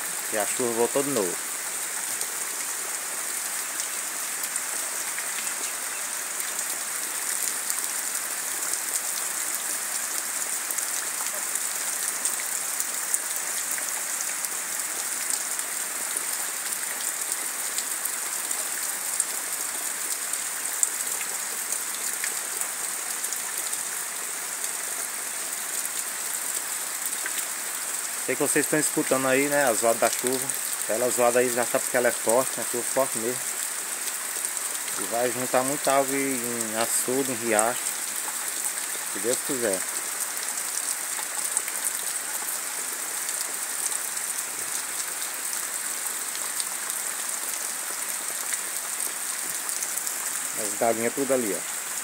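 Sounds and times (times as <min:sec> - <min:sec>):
heavy rain on vegetation: 0:00.0 - 0:52.0.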